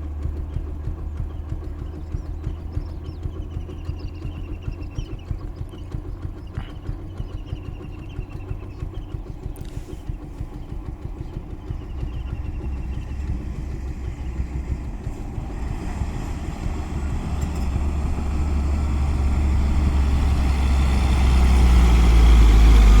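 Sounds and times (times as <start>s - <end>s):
lorry diesel engine rumble: 0.0s - 23.0s.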